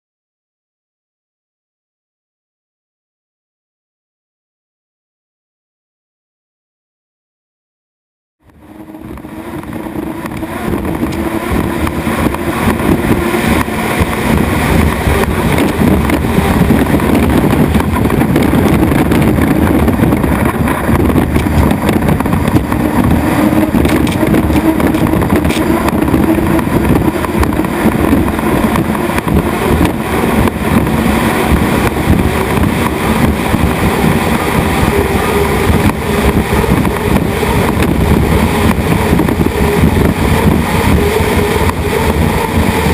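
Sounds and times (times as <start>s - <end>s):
hydroplane engines roaring: 8.4s - 42.9s.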